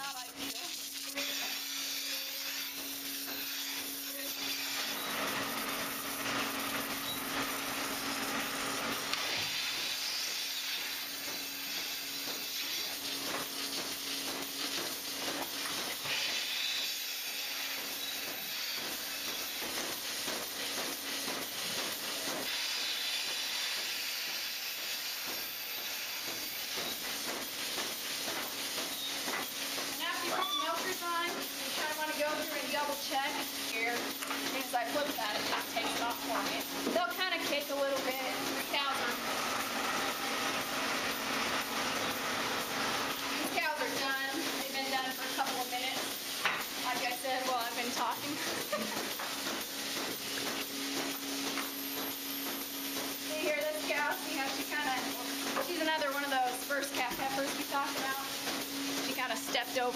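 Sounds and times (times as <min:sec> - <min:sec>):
milking machine vacuum hissing: 0:00.0 - 0:59.9.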